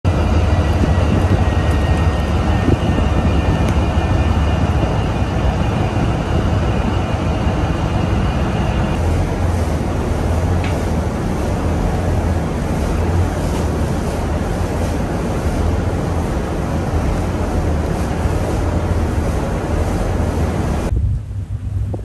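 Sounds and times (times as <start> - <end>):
ship diesel engines droning: 0.0 - 22.0
water noise: 0.0 - 22.0
wind rushing: 0.1 - 22.0.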